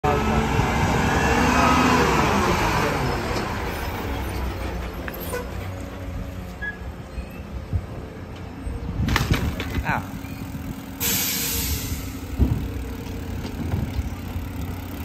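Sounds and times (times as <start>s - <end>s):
garbage truck diesel engine: 0.0s - 9.0s, 10.0s - 15.0s.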